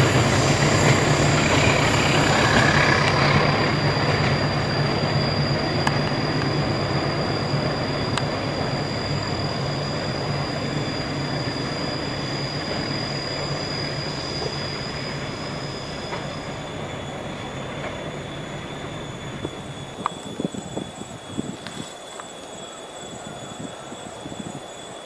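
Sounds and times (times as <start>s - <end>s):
high-pitched wheel squeal: 0.0s - 25.0s
train wheels rumbling on rails: 0.0s - 25.0s.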